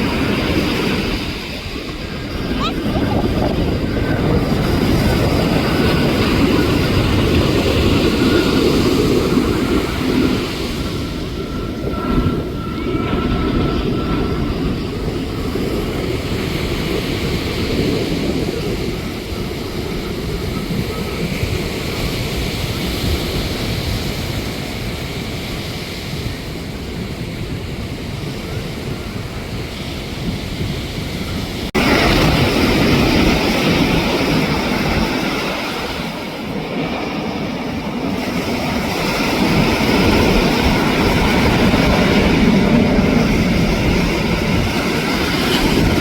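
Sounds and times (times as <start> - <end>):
jet airliner engines rumbling: 0.0 - 46.0.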